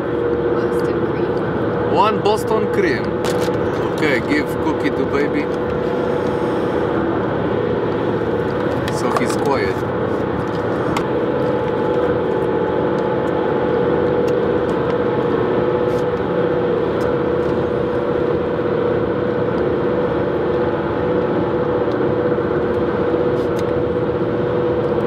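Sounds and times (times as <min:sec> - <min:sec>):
car cabin engine hum: 0:00.0 - 0:25.0.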